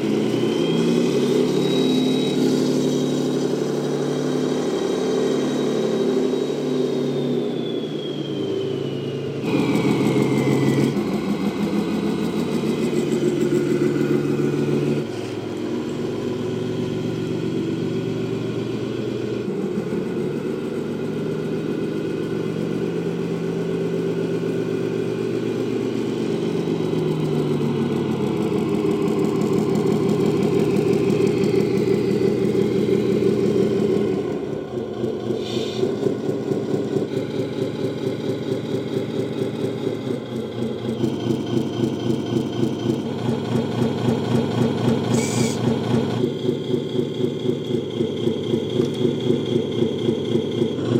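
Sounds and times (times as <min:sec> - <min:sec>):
simulated truck engine revving: 0:00.0 - 0:50.9.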